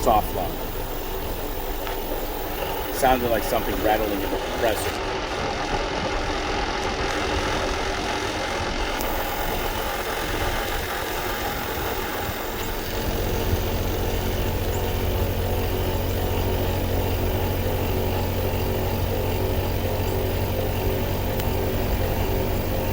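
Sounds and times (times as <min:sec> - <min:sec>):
compressor unit humming: 0:00.0 - 0:22.9.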